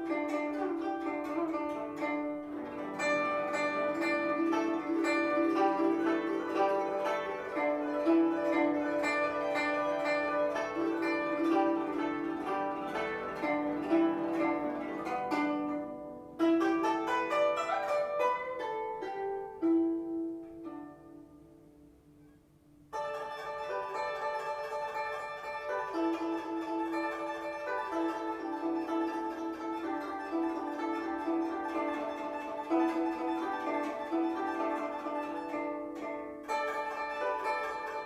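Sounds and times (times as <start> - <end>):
plucked zither music: 0.0 - 38.0.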